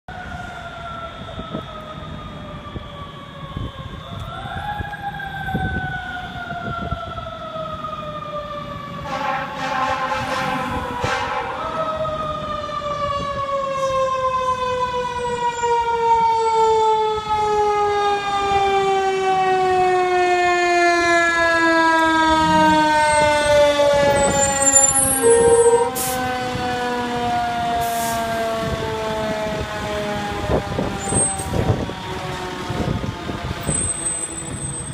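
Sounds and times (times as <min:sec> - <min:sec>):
fire engine siren winding down: 0:00.1 - 0:34.9.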